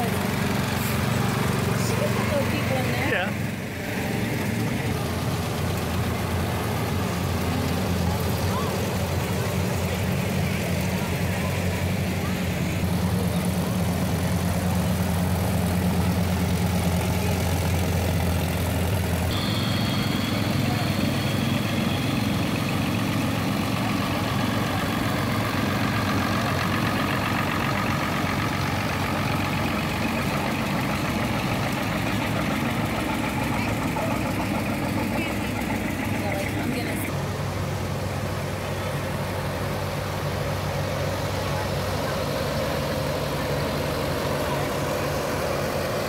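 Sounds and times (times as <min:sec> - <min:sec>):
tractor engines running slowly: 0:00.0 - 0:46.0.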